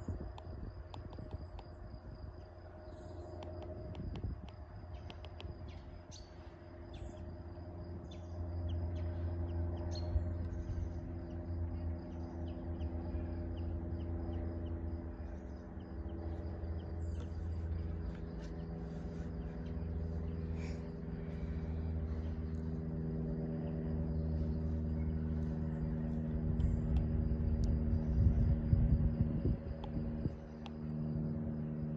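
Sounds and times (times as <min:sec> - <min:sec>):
insect calls: 0:00.0 - 0:31.9
steady low hum: 0:00.0 - 0:31.9.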